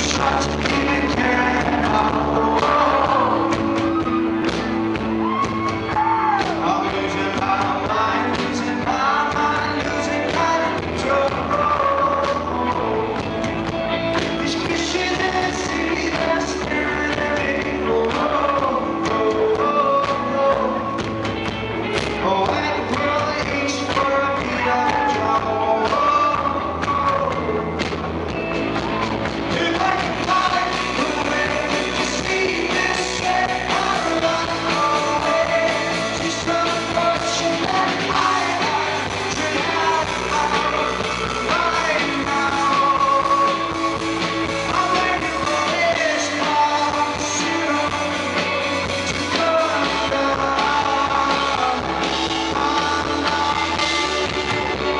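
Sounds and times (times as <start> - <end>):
man singing: 0.0 - 54.9
rock band playing live: 0.0 - 54.9.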